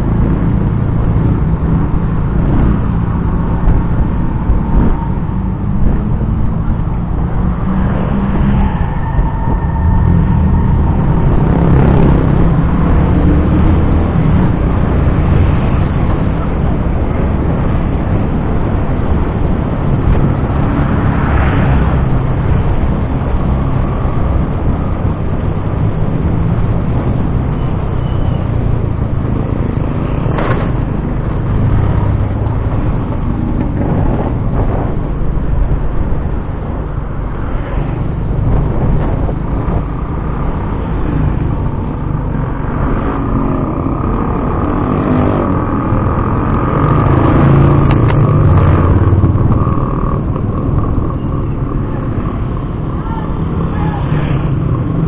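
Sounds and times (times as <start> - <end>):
passing traffic: 0.0 - 55.0
wind and road noise: 0.0 - 55.0.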